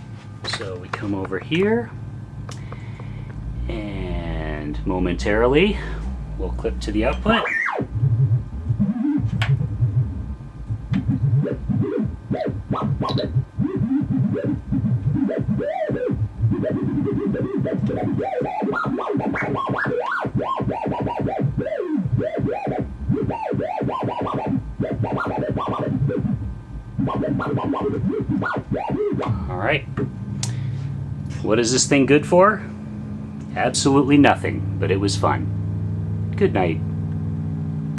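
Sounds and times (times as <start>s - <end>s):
warbling electronic tone: 1.9s - 37.9s.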